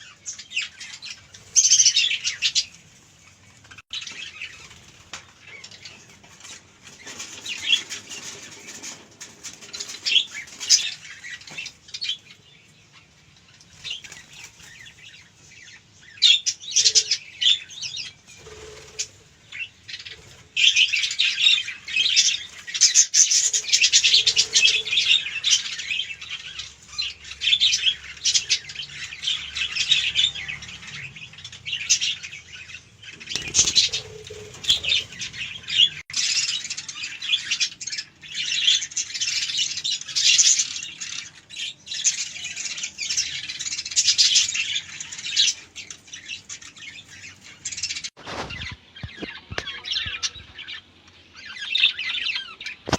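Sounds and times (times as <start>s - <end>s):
budgerigars chirping and chattering: 0.0s - 2.8s, 3.5s - 52.9s.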